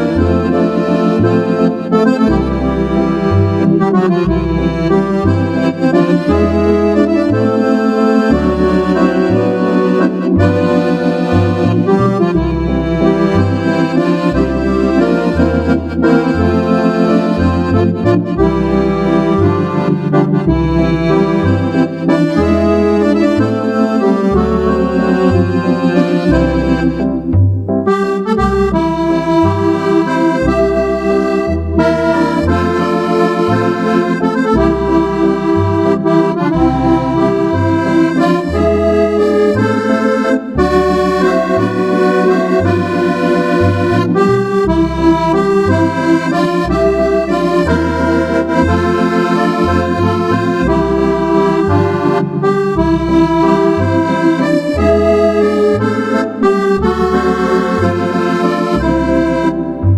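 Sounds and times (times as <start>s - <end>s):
digital accordion playing a waltz: 0.0s - 59.9s.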